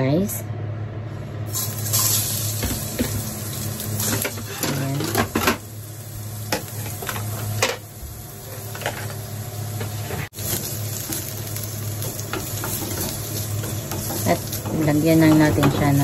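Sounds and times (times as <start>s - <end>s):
stalks sizzling in oil: 1.5s - 16.0s.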